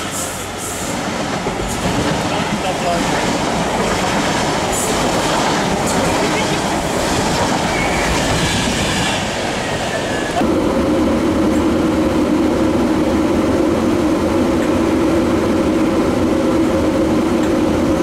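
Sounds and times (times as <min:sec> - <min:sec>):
departing train rumble: 0:00.0 - 0:17.9.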